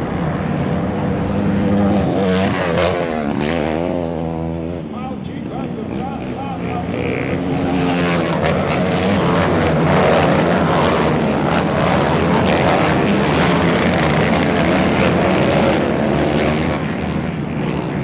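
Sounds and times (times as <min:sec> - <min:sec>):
race truck engines at high revs: 0:00.0 - 0:18.0.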